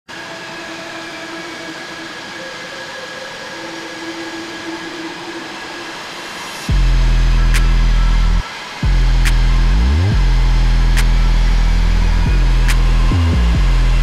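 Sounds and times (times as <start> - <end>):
jet engines rushing with whine: 0.1 - 14.0
loud low drone: 0.1 - 14.0.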